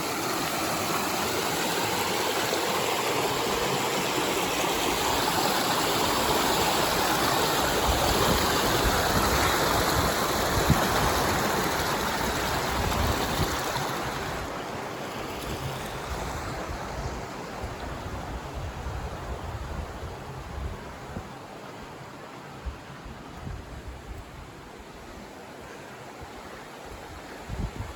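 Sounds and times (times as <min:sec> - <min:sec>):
creek water rushing over rocks: 0:00.0 - 0:23.4.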